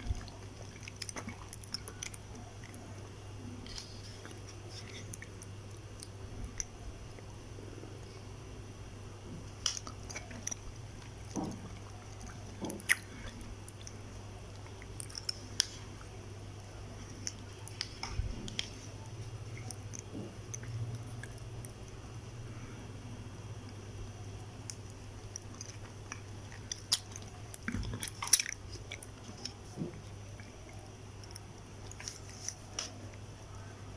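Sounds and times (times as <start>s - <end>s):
quiet chewing: 0.0s - 7.3s, 9.3s - 22.9s, 23.6s - 33.8s
steady low hum: 0.0s - 33.9s.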